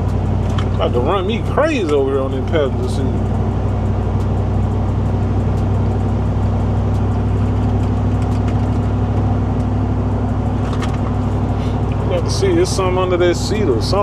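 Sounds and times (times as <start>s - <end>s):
car engine and road drone: 0.0s - 14.0s
light rattle ticks: 0.0s - 14.0s.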